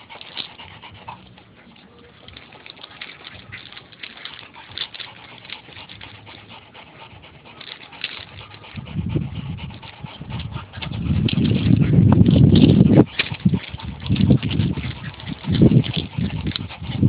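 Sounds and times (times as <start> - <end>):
dog panting: 0.0 - 17.0
low rumble: 0.0 - 17.0
puppies scuffling: 0.0 - 17.0
scratchy crackles: 0.0 - 17.0.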